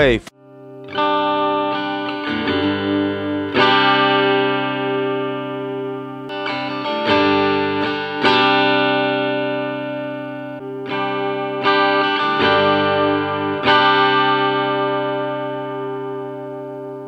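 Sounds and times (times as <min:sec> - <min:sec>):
overdriven electric guitar chords: 0:00.3 - 0:17.0.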